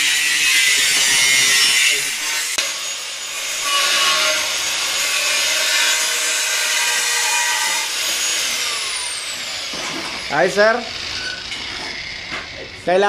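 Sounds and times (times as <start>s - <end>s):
angle grinder cutting metal: 0.0s - 13.0s.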